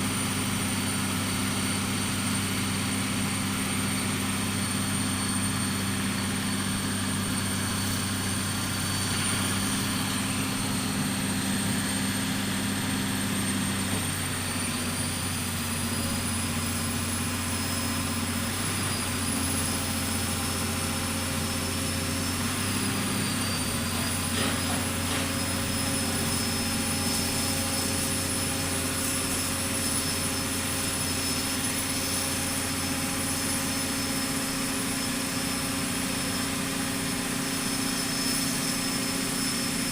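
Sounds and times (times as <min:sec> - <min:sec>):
faint high whine: 0:00.0 - 0:39.9
pile-driving machine engine hum: 0:00.0 - 0:39.9.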